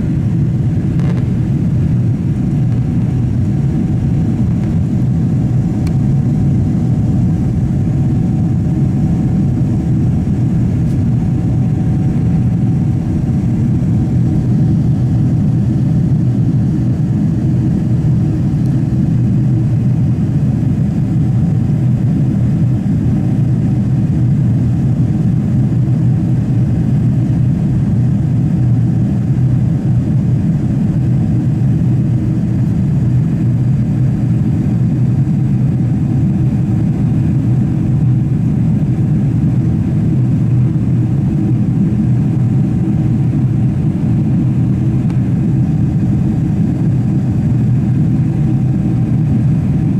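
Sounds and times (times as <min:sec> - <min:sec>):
airplane cabin roar: 0:00.0 - 0:49.9.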